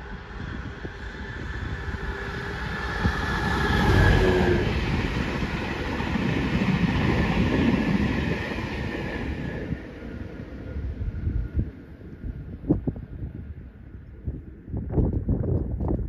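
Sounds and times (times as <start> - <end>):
passenger train passing: 0.0 - 15.4.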